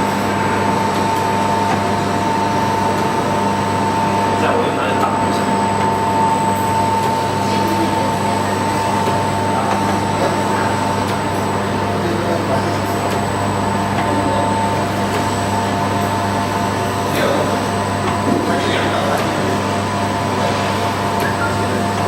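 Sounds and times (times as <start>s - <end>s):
electric machinery humming: 0.0s - 22.0s.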